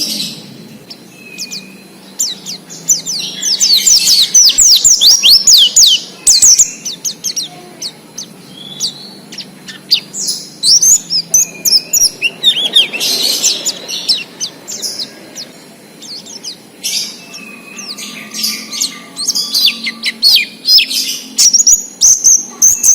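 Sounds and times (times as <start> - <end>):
bird singing high falling chirps: 0.0 - 22.9.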